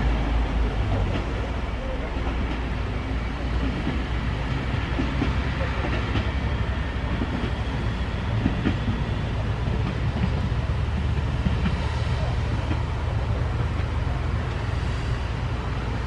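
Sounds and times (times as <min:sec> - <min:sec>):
diesel railcar engine rumble: 0:00.0 - 0:16.0
wheels clicking on rail: 0:00.0 - 0:16.0.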